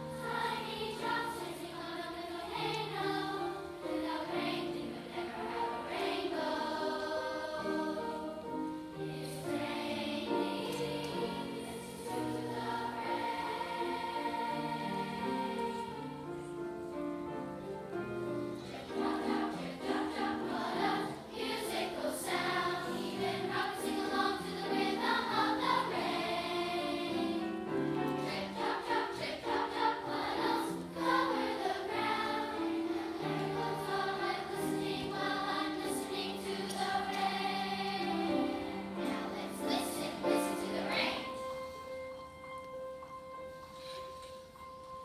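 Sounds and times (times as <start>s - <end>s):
mixed choir singing: 0.0s - 41.9s.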